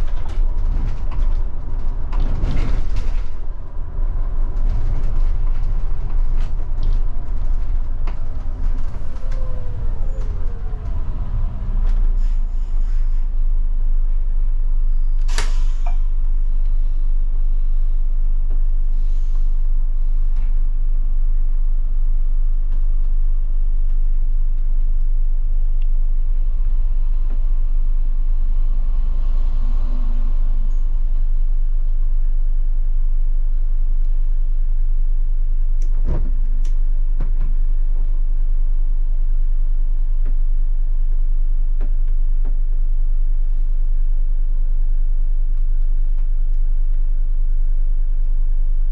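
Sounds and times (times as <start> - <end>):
bus engine low drone: 0.0 - 48.9.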